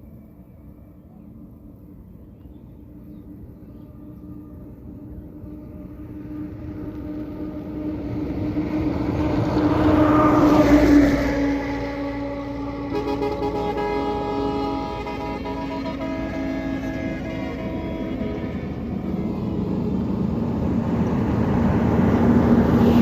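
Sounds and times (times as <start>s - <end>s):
train engine hum: 0.0s - 23.0s.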